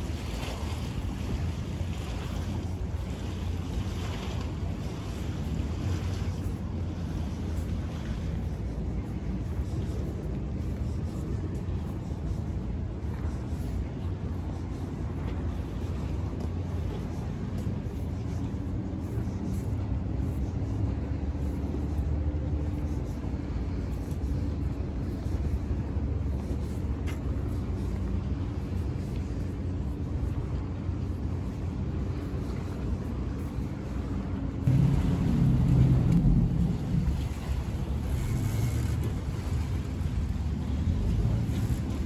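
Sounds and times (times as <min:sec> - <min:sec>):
boat engine rumbling: 0:00.0 - 0:42.0.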